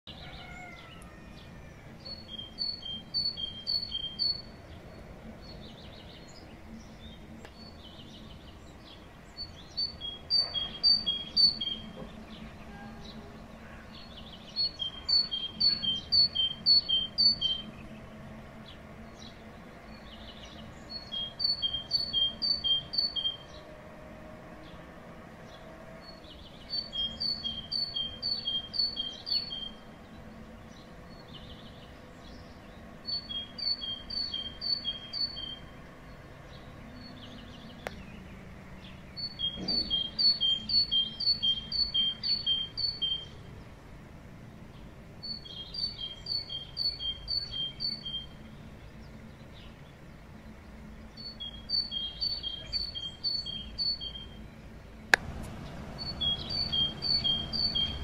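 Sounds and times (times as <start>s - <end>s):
great tit singing: 2.0s - 23.9s, 25.4s - 43.8s, 44.5s - 58.0s.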